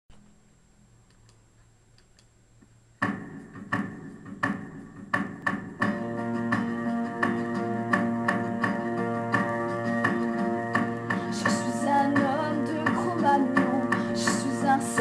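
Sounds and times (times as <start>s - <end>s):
instrumental backing track: 2.0s - 15.0s.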